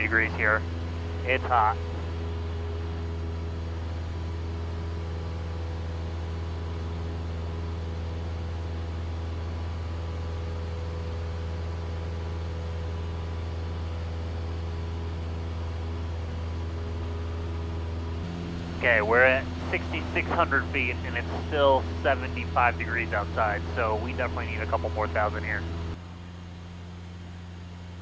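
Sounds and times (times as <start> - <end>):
airplane engine droning in cockpit: 0.0 - 28.0.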